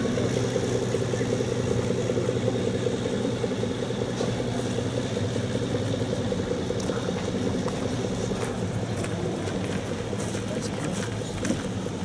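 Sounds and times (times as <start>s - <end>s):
diesel railcar engine drone: 0.0s - 12.0s.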